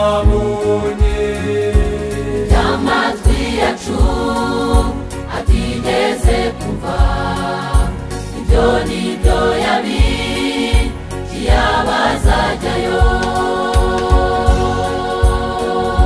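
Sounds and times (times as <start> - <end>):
gospel choir music: 0.0 - 16.0.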